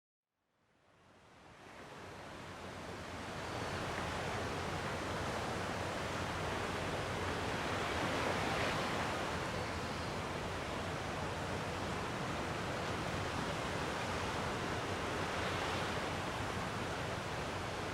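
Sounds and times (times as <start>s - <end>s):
sea waves washing on shore: 1.7s - 17.9s.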